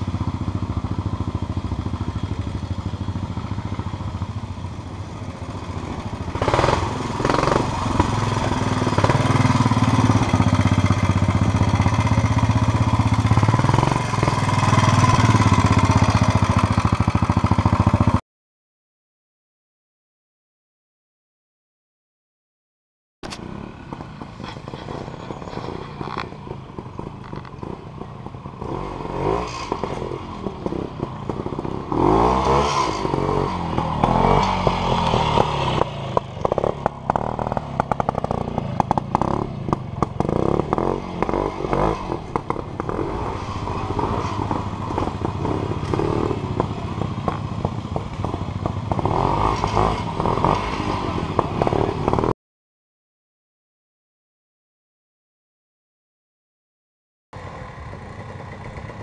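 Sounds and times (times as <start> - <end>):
motorcycle engine revving: 0.0 - 18.2, 23.3 - 52.4, 57.4 - 59.0.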